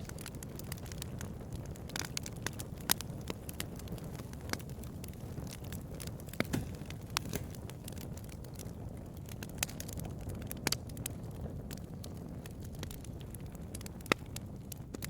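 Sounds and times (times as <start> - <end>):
bonfire crackling: 0.0 - 15.0.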